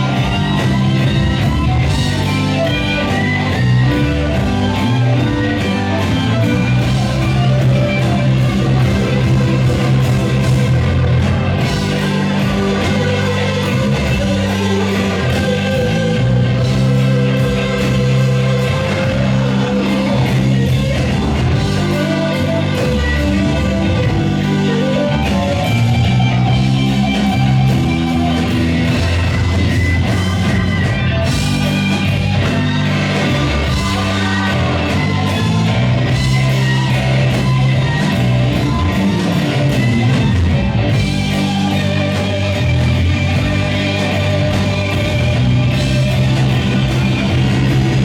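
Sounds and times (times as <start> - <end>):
blues-rock band playing live: 0.0 - 48.0
electric guitar: 0.0 - 48.0.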